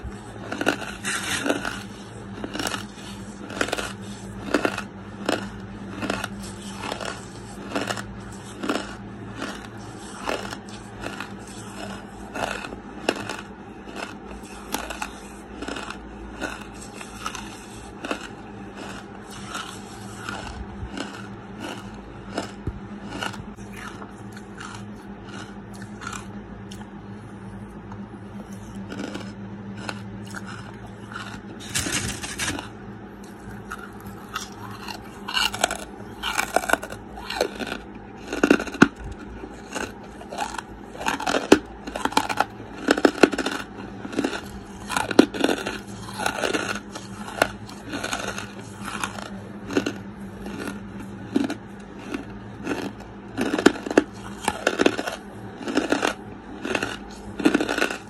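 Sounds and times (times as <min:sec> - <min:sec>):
gritty chewing crunches: 0:00.0 - 0:58.0
low hum: 0:00.0 - 0:58.0.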